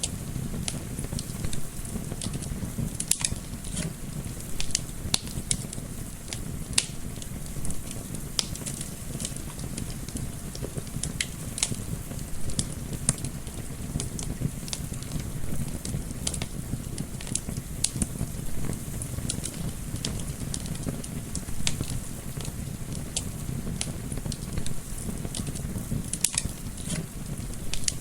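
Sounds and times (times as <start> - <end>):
sharp pops of fire: 0.0 - 28.0
wood fire crackling: 0.0 - 28.0.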